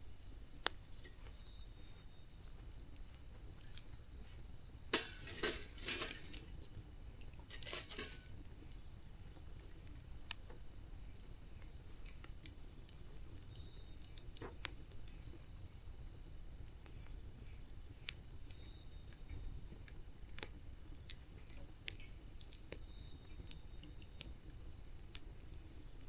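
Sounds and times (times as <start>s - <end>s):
low fire rumble: 0.0s - 26.0s
campfire crackling and popping: 0.2s - 26.0s.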